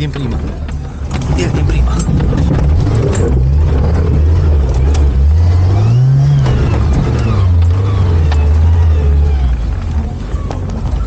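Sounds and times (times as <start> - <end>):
vehicle knocking over terrain: 0.0 - 11.0
engine revving under load: 1.1 - 11.0.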